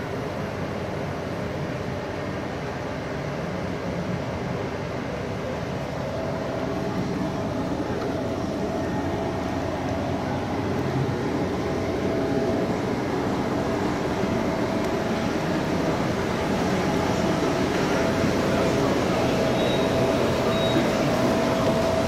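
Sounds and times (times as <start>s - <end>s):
faint constant hum: 0.0s - 22.0s
low vehicle rumble: 0.0s - 22.0s.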